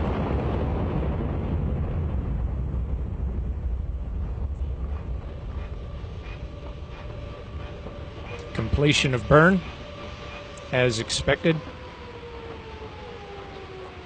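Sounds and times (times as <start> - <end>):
rocket motor deep rumble: 0.0 - 14.0.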